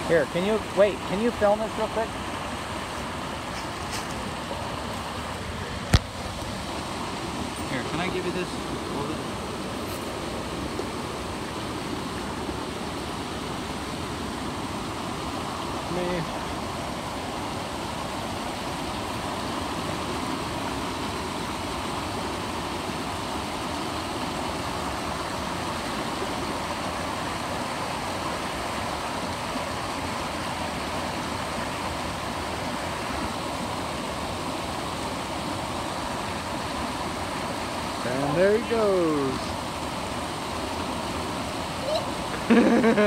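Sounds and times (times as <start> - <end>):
small waterfall splashing: 0.0 - 43.0.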